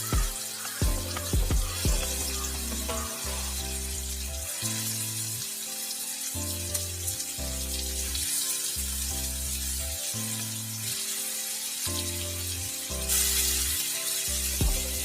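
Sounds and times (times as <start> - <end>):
background music: 0.0 - 15.0
chicken sizzling in a pan: 0.0 - 15.0.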